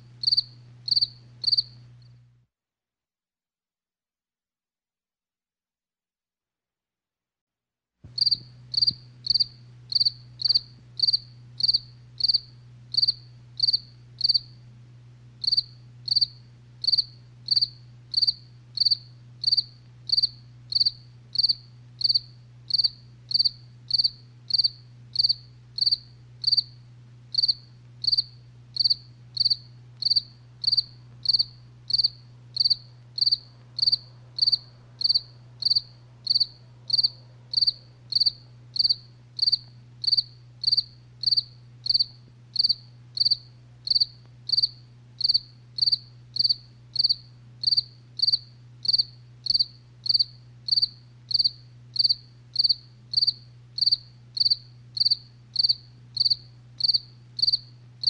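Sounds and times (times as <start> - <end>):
faint low hum: 0.0 - 2.5, 8.1 - 58.0
cricket chirping: 0.2 - 1.8, 8.2 - 14.6, 15.4 - 57.8.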